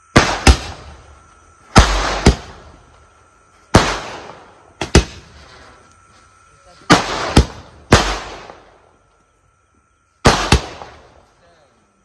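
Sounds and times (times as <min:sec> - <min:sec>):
fireworks bursting: 0:00.0 - 0:11.7.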